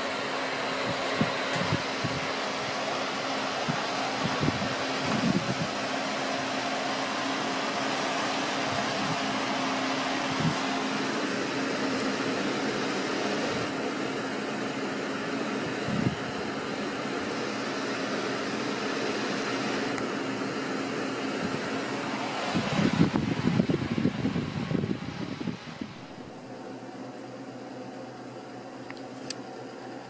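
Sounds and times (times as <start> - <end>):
computer fans whirring: 0.0 - 30.0.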